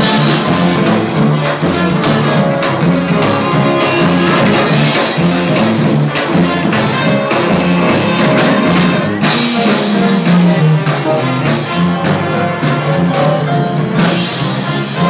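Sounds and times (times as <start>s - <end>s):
sousaphone bass line: 0.0s - 14.8s
brass band playing: 0.0s - 15.0s
marching drums: 0.0s - 15.0s.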